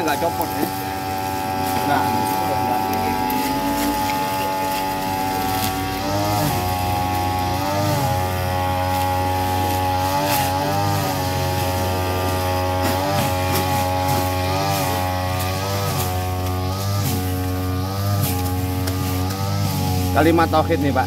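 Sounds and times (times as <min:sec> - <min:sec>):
small engine revving: 0:00.0 - 0:21.0.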